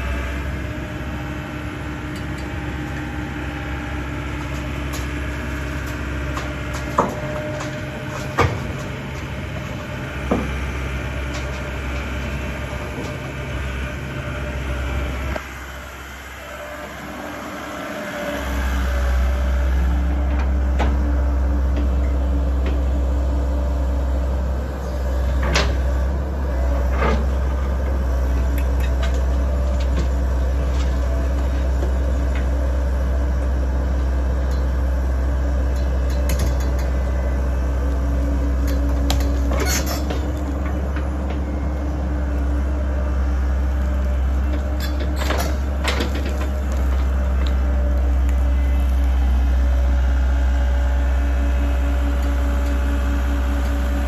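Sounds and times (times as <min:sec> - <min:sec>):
diesel excavator engine running: 0:00.0 - 0:54.0.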